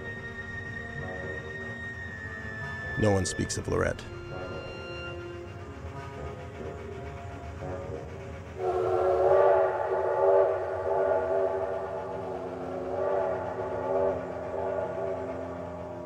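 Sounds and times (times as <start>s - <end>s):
train whistle blast: 0.0s - 16.0s.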